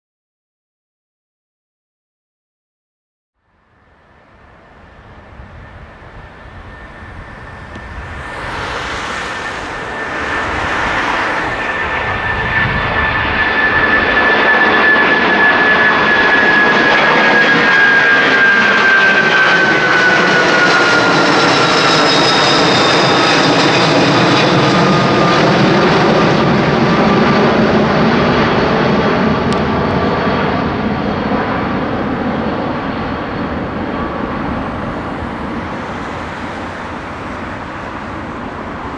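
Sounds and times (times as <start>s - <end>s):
high jet fan whine: 3.4s - 38.9s
jet engines rumbling: 3.5s - 38.9s.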